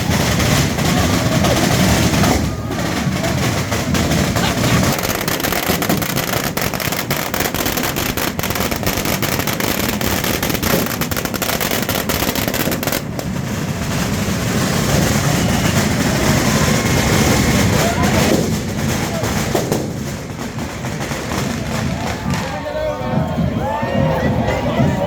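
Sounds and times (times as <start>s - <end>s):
firecracker bangs: 0.0s - 22.8s
crowd and street noise: 0.0s - 25.0s.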